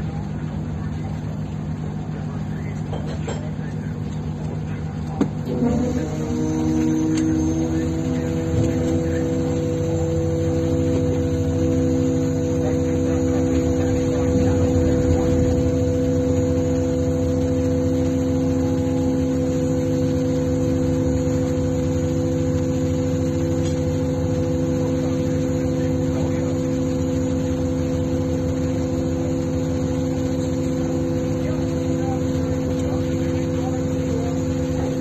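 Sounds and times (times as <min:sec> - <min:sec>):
tugboat engines droning: 0:00.0 - 0:35.0.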